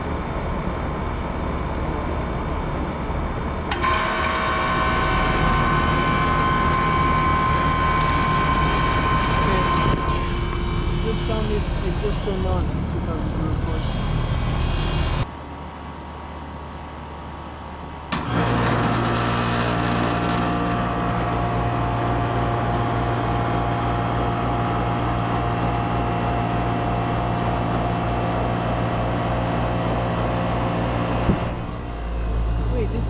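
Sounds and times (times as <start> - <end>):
compressor and fan humming: 0.0 - 33.0.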